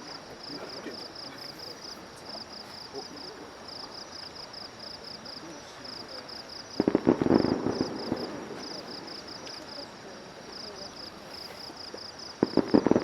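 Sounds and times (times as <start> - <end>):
fireworks crackling: 0.0 - 13.0
insects chirping: 0.0 - 13.0.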